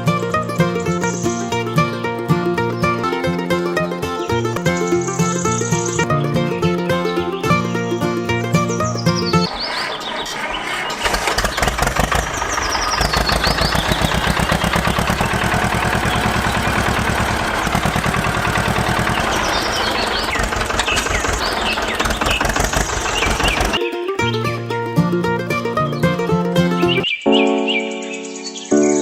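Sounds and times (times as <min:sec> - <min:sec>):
small engine running: 0:00.0 - 0:23.8.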